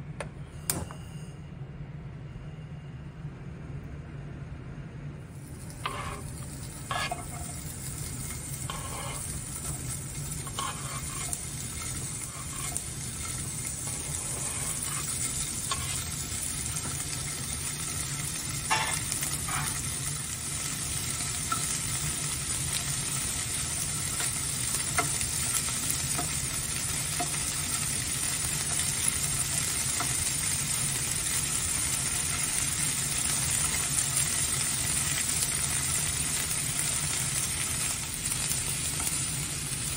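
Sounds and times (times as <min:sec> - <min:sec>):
sausage sizzling in frying pan: 0:05.3 - 0:39.9.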